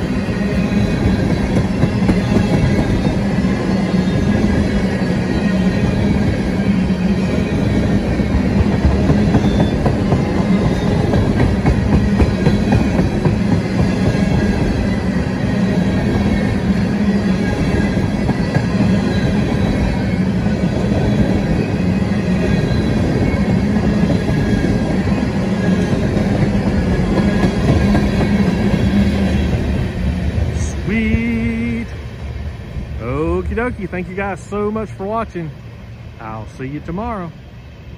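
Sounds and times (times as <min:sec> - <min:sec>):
train wheels on rails: 0:00.0 - 0:37.9.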